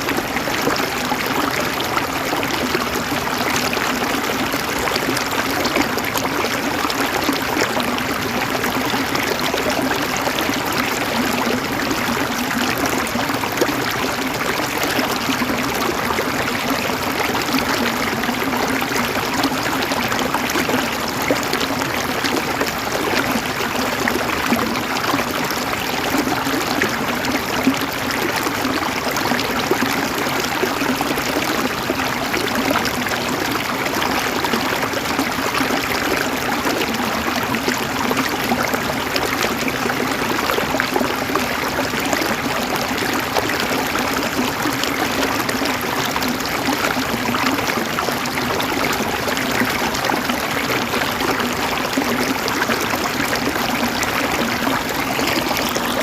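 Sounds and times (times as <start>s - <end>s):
river water gurgling over rocks: 0.0s - 56.0s.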